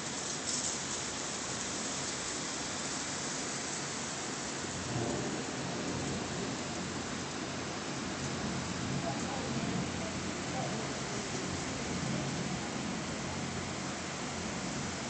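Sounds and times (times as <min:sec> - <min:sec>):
rain and wind rushing: 0:00.0 - 0:15.0.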